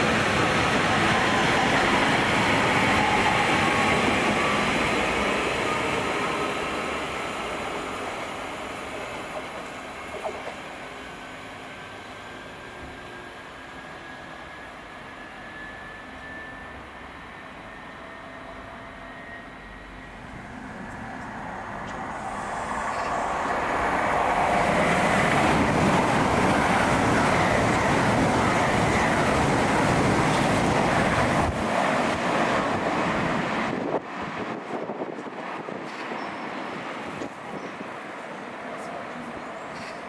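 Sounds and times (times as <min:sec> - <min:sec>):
train passing at speed: 0:00.0 - 0:40.0.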